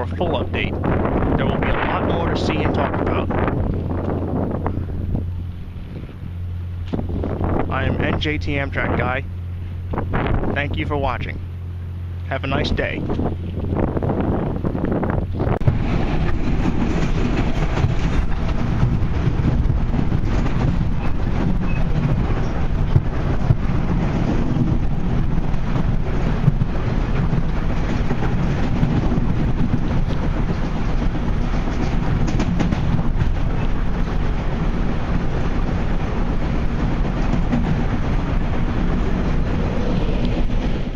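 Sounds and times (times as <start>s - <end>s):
low rumbling noise: 0.0s - 40.9s.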